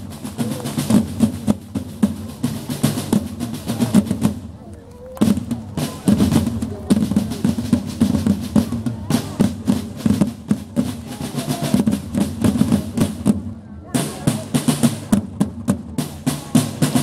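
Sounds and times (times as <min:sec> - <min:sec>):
parade drums playing: 0:00.0 - 0:04.6, 0:05.2 - 0:17.0.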